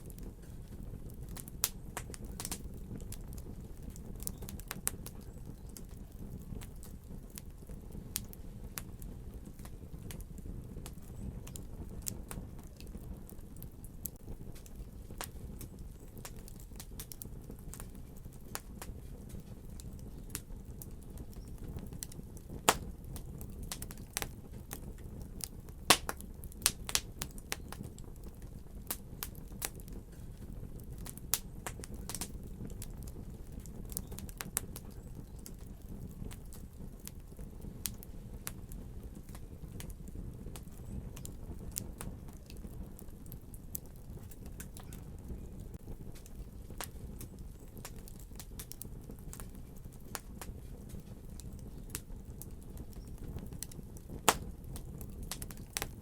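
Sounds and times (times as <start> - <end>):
fire popping and snapping: 0.0 - 56.0
low rumble of flame: 0.0 - 56.0.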